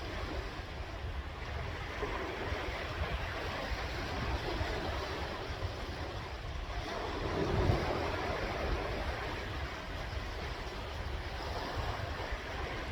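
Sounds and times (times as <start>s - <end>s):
sea waves breaking on shore: 0.0s - 12.9s.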